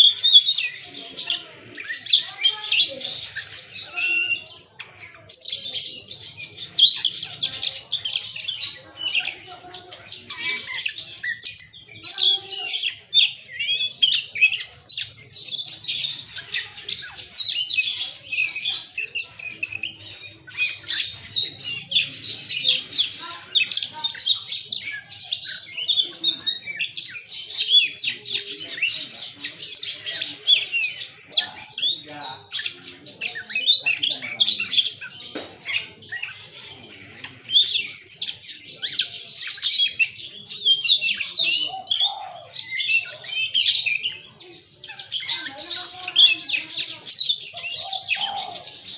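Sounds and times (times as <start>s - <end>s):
songbird singing: 0.0s - 48.9s.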